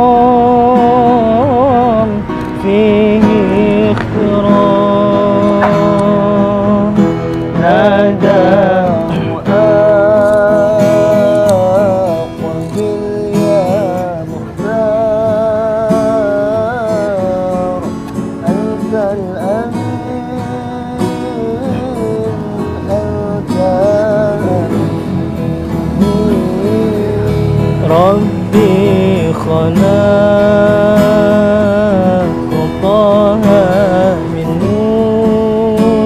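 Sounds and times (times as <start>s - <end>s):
strummed acoustic guitar: 0.0s - 36.0s.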